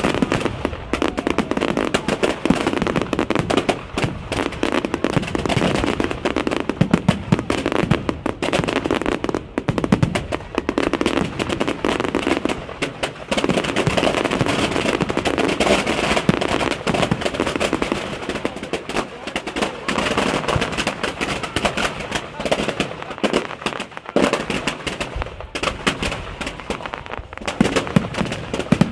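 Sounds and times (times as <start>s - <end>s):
fireworks popping and banging: 0.0s - 28.9s.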